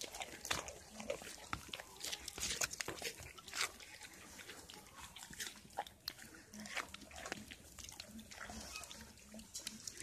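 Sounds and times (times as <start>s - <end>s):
deer crunching and chewing: 0.0s - 10.0s.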